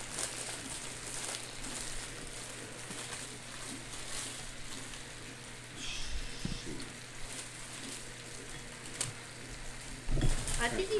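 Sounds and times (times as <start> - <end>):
food sizzling and crackling: 0.0 - 10.9
steady low hum: 0.0 - 10.9.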